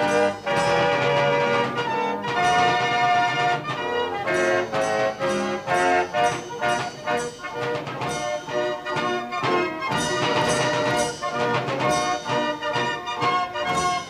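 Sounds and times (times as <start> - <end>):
fairground organ playing: 0.0 - 14.0.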